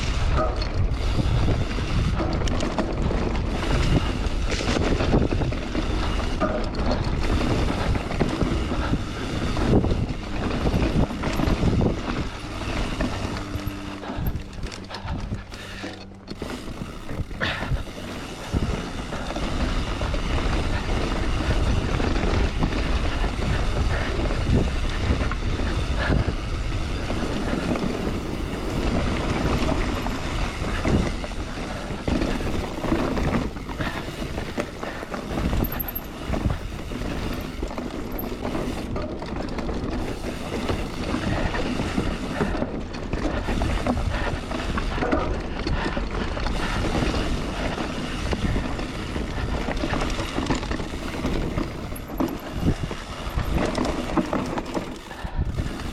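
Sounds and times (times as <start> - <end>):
bike knocks and rattles: 0.0 - 55.9
bike tyre rumble: 0.0 - 55.9
wind rush on microphone: 0.0 - 55.9.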